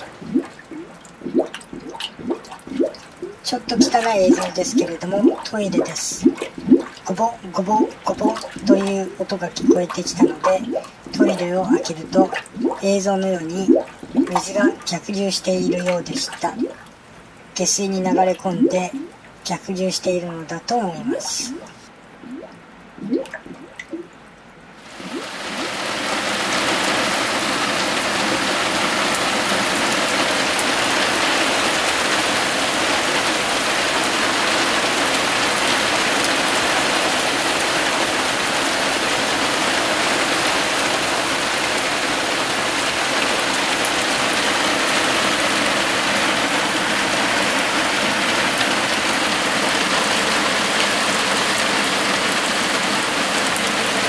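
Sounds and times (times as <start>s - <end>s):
heavy rain pouring: 0.0s - 19.4s, 24.8s - 54.0s.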